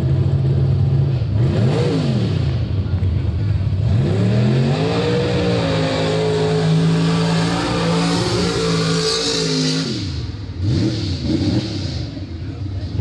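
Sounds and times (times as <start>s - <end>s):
truck engine revving hard: 0.0s - 2.9s, 3.7s - 13.0s.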